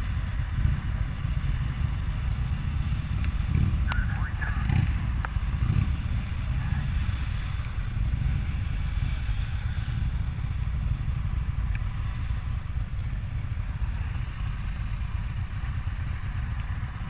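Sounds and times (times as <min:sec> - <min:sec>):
motorcycle engine idling: 0:00.0 - 0:17.0
other motorcycles idling: 0:00.0 - 0:17.0.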